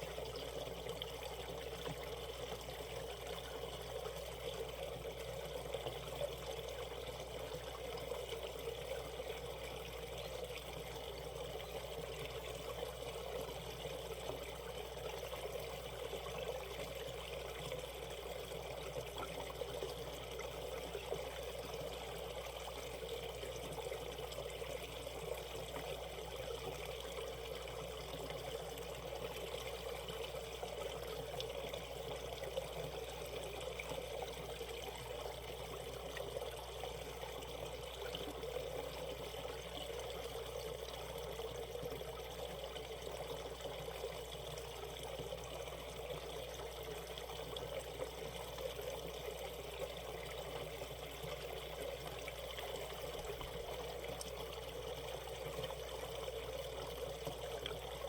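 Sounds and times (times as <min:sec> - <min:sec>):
stream water trickling over rocks: 0:00.0 - 0:58.0.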